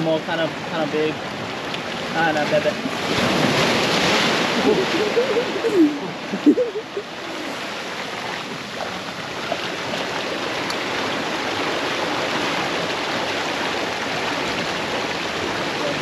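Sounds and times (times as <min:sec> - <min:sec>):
seawater washing between boulders: 0:00.0 - 0:16.0.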